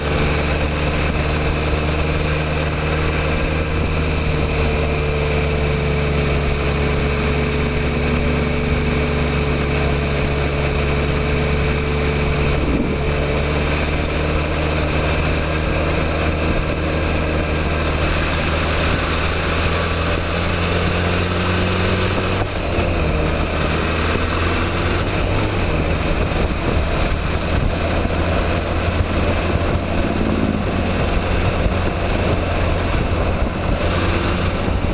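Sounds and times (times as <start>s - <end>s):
motorcycle engine running: 0.0s - 34.9s
wind and road noise: 0.0s - 34.9s.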